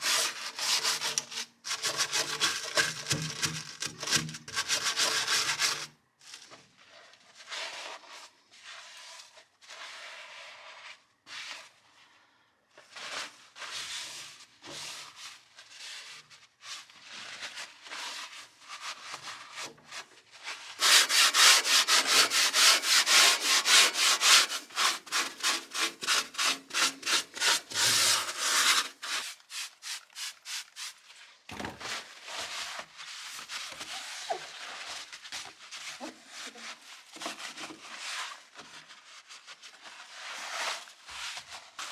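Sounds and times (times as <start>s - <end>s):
scrubbing on a hard surface: 6.8s - 12.2s, 12.9s - 31.3s, 32.1s - 41.9s.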